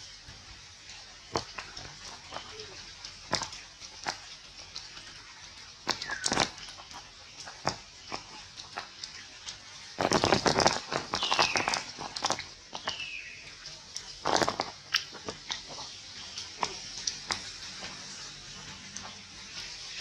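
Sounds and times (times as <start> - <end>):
leaves and twigs rustling: 1.4 - 5.3, 5.9 - 20.0.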